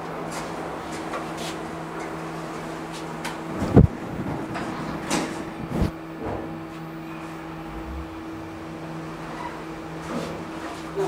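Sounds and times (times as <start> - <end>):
elevator machinery humming: 1.7 - 11.0.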